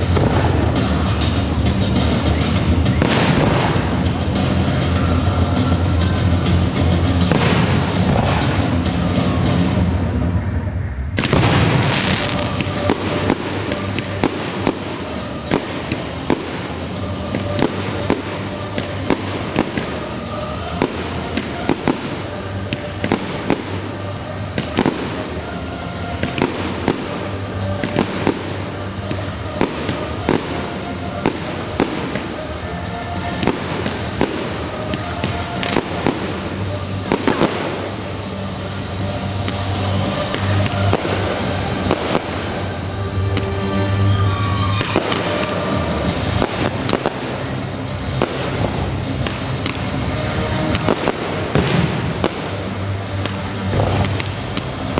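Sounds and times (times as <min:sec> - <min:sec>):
sharp bangs and crackles: 0:00.0 - 0:05.0, 0:06.4 - 0:09.8, 0:11.2 - 0:54.9
fireworks bursting: 0:00.0 - 0:06.0, 0:06.7 - 0:09.8, 0:11.2 - 0:54.9
epic-style music: 0:00.0 - 0:54.9.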